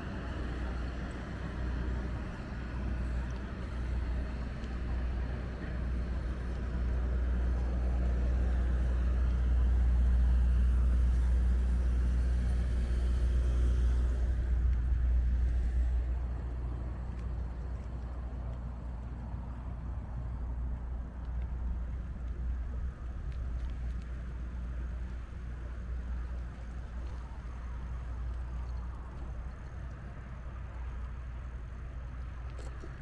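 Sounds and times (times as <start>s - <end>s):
road traffic: 0.0s - 33.0s
wind rumbling on microphone: 0.0s - 33.0s.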